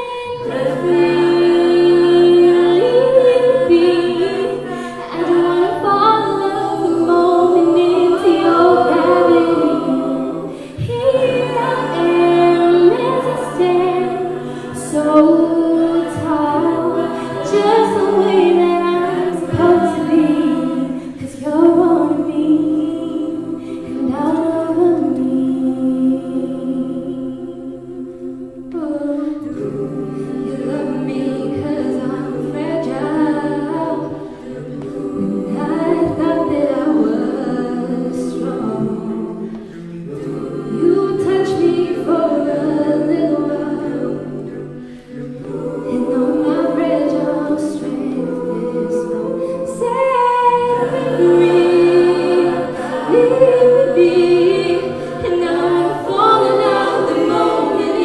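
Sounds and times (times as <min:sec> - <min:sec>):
backing vocal harmonies: 0:00.0 - 0:58.0
woman singing lead: 0:00.0 - 0:58.0.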